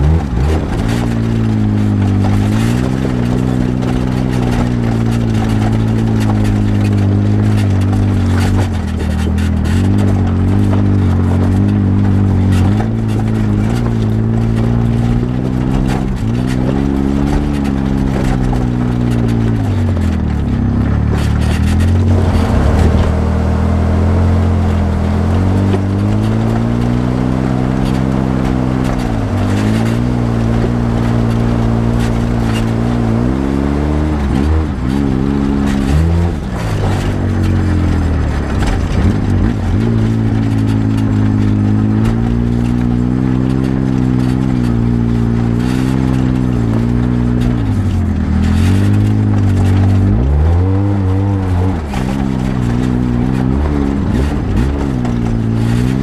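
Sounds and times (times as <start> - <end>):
tyres grinding over rocky dirt: 0.0 - 56.0
vehicle engine revving: 0.0 - 56.0.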